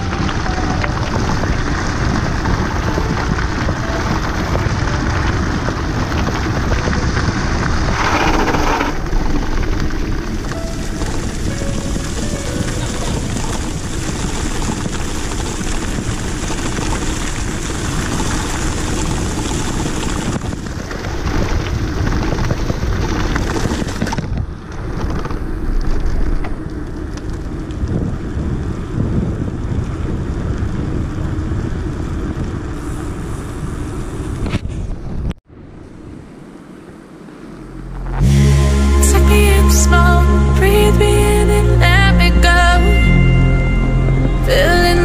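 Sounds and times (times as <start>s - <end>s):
wind buffeting microphone: 0.0s - 38.3s
bike tyre rumble: 0.0s - 41.8s.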